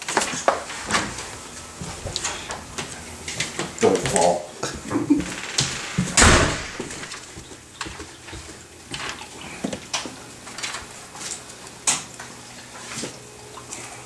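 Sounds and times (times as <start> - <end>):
footsteps walking through a house: 0.0 - 14.0.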